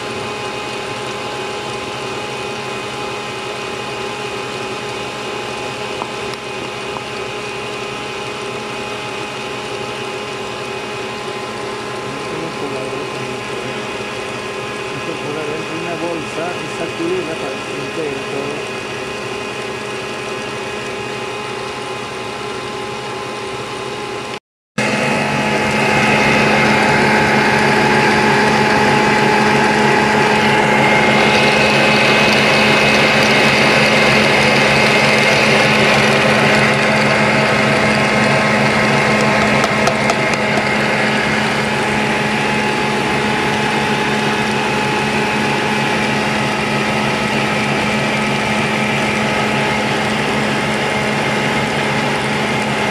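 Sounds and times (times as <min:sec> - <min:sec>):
stand mixer whisking: 0:00.0 - 0:52.9.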